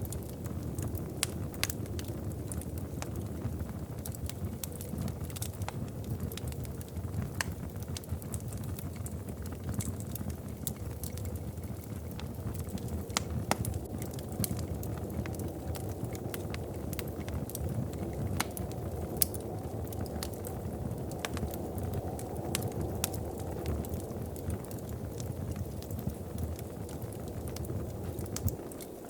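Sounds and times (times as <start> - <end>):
fire crackling and popping: 0.0 - 29.0
fire flames rumbling: 0.0 - 29.0.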